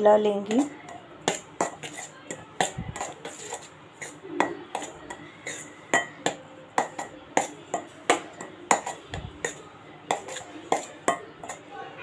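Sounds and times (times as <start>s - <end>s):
metal spoon scraping steel bowl: 0.5s - 11.7s.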